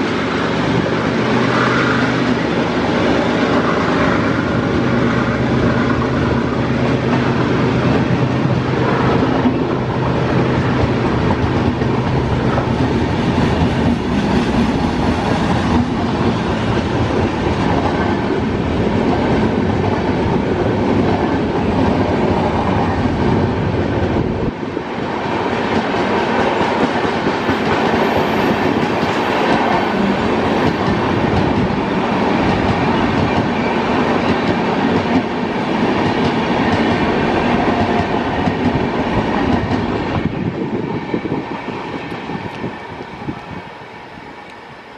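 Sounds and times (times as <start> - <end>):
train wheels rumbling on rail: 0.0 - 44.9
clickety-clack over rail joints: 3.4 - 23.4, 25.2 - 41.3.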